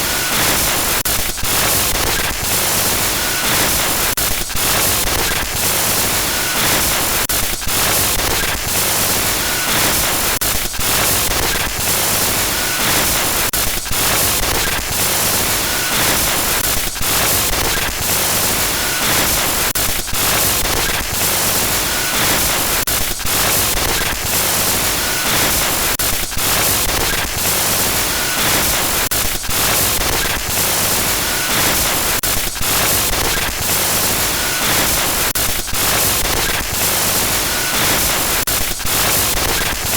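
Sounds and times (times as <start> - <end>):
glitchy static hiss: 0.0 - 39.9.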